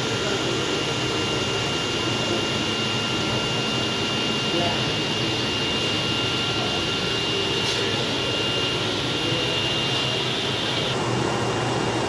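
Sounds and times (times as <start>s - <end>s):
cutting plotter whirring hiss: 0.0s - 12.0s
thin high whine: 0.0s - 12.0s.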